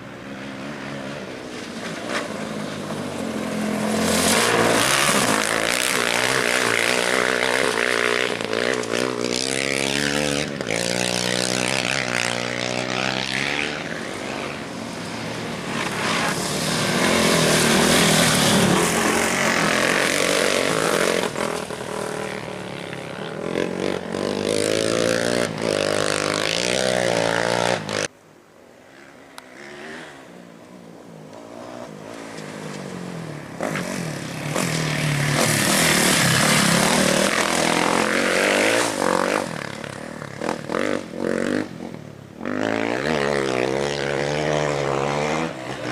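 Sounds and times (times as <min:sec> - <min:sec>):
off-road motorbikes and quads revving: 0:00.0 - 0:28.2, 0:28.8 - 0:45.9
faint engine approaching: 0:00.0 - 0:45.9.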